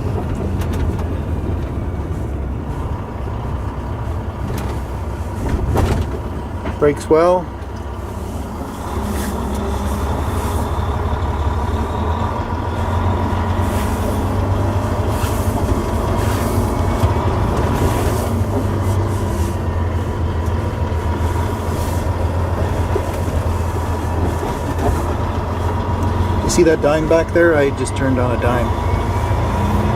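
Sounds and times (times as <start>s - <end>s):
diesel truck engine droning: 0.0s - 29.9s
road noise: 0.0s - 29.9s.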